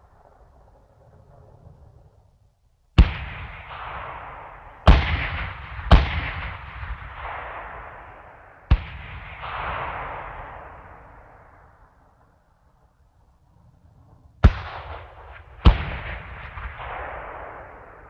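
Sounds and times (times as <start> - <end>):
explosions with echoing rumble: 0.0 - 13.0, 13.7 - 18.0.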